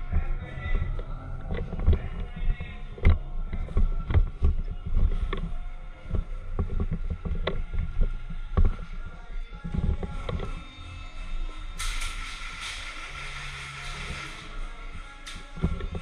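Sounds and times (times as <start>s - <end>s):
steady low rumble: 0.0s - 13.3s.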